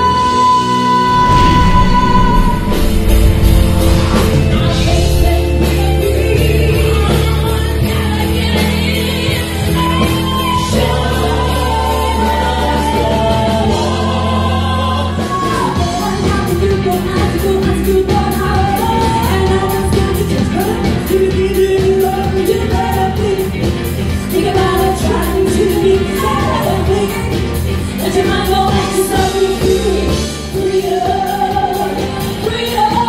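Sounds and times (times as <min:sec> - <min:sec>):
pop music with singing: 0:00.0 - 0:33.0.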